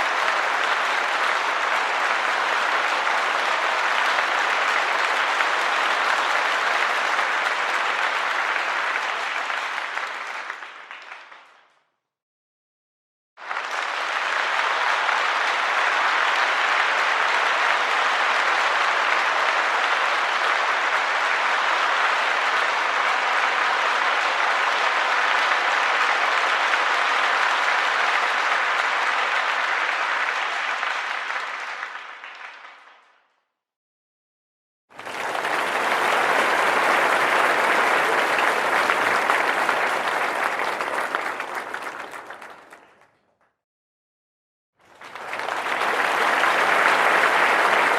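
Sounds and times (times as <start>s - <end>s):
audience applause: 0.0s - 11.6s, 13.4s - 33.1s, 34.9s - 43.2s, 44.8s - 47.9s.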